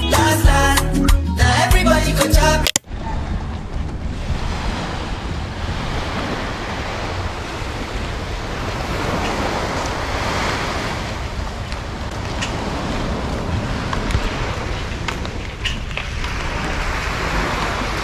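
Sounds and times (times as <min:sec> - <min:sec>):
rushing water and waves: 0:02.9 - 0:18.0
wind buffeting the microphone: 0:02.9 - 0:18.0.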